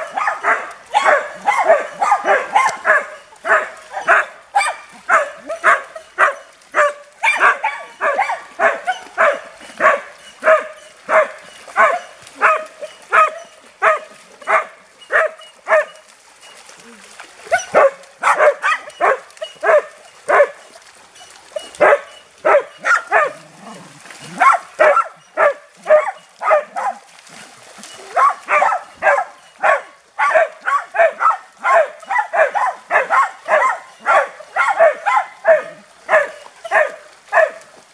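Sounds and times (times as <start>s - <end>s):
dog barking: 0.0s - 16.0s, 17.5s - 20.6s, 21.8s - 23.4s, 24.4s - 27.1s, 28.1s - 37.6s.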